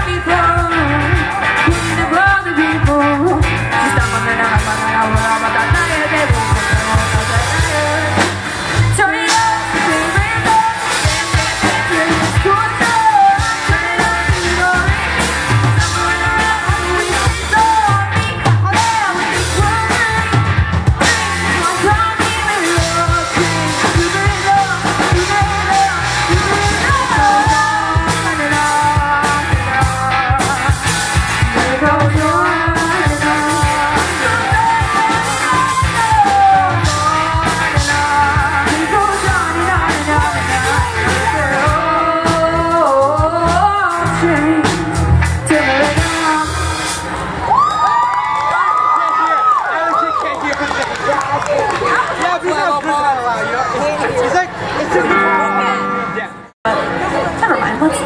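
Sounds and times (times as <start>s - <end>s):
lead singer singing: 0.0s - 47.1s
live rock band playing: 0.0s - 48.6s, 53.0s - 58.0s.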